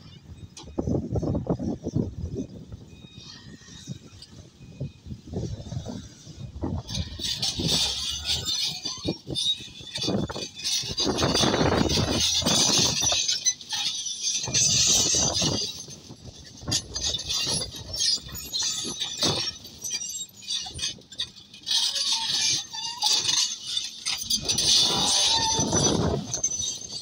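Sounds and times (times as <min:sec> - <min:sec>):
metallic clanking and scraping: 0:00.4 - 0:27.0.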